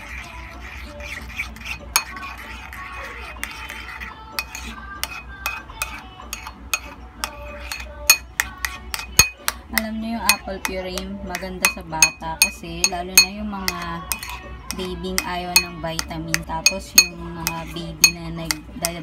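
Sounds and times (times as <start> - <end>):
metal spoon scraping ceramic bowl: 0.0 - 19.0
spoon clicking against bowl: 2.0 - 2.3, 3.4 - 19.0.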